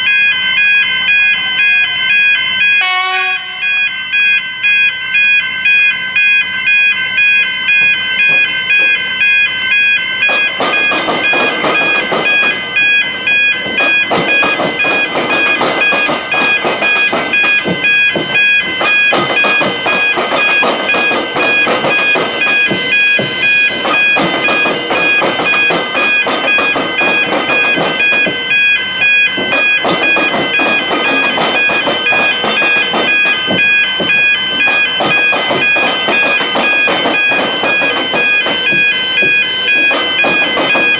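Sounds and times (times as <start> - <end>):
level crossing bells ringing: 0.0 - 40.9.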